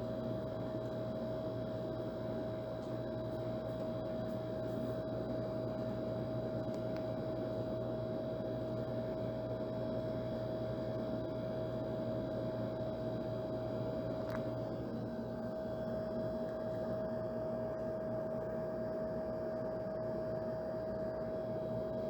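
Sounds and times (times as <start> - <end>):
air conditioner running: 0.0 - 22.0.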